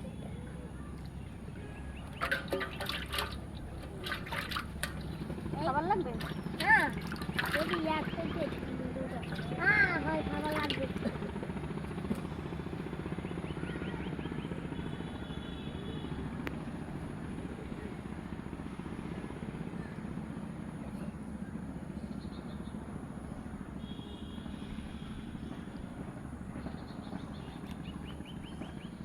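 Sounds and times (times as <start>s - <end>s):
motor drone with rapid pulse: 0.0s - 29.0s.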